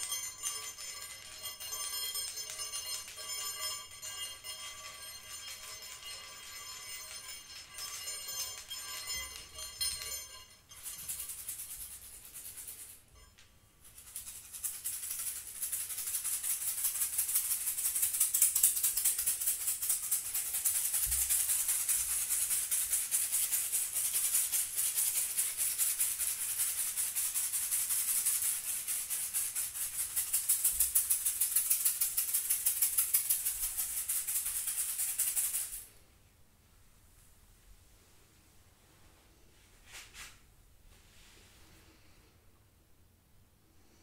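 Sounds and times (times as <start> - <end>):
hand shaker rattling: 0.0 - 36.1.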